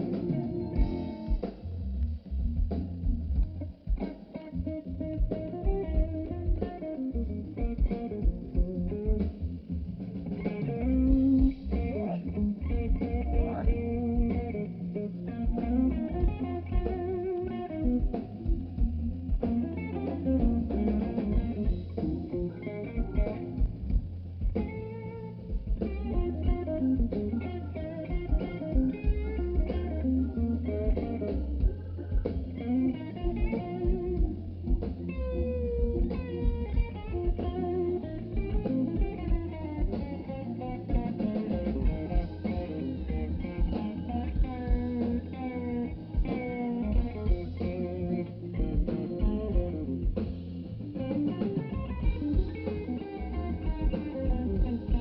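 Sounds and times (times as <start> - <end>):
bass guitar: 0.0 - 55.0
electric guitar lines: 0.0 - 55.0
steady drum beat: 0.0 - 55.0.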